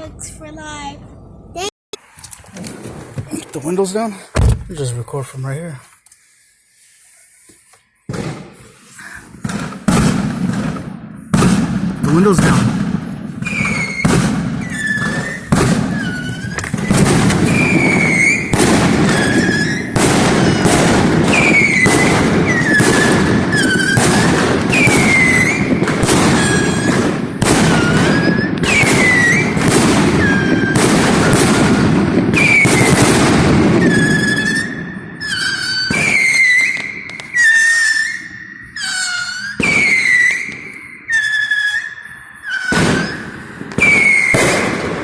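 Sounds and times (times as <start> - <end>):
firework whistling: 6.2 - 45.0
firework bangs: 8.0 - 45.0
firework crackle: 8.0 - 45.0.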